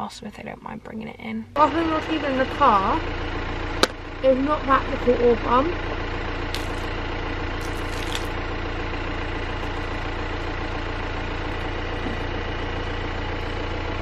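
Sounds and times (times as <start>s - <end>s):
car engine idling: 1.5s - 14.0s.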